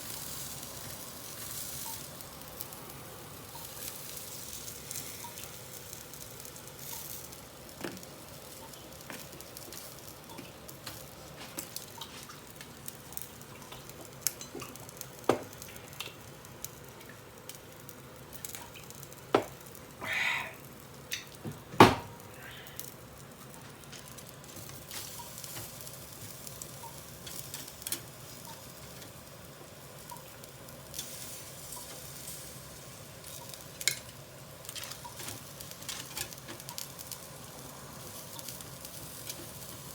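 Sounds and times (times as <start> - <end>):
skewers sizzling on a grill: 0.0 - 39.9.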